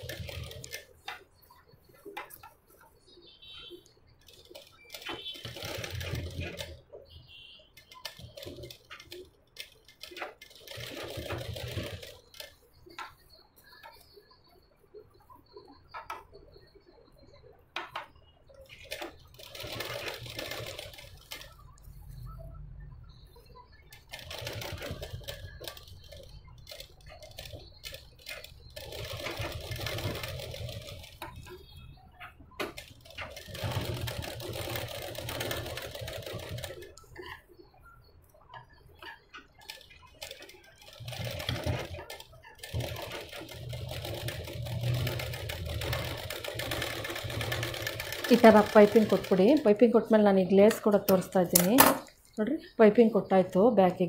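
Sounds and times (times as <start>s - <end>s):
sewing machine stitching: 0.0s - 14.1s, 17.8s - 52.1s.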